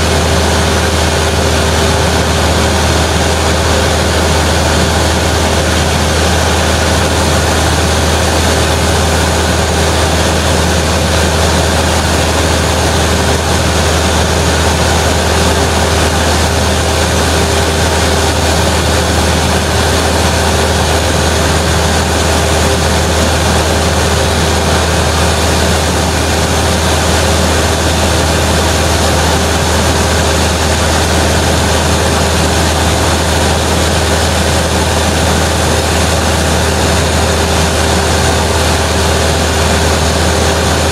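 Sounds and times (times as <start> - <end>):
airplane engine droning: 0.0 - 40.9.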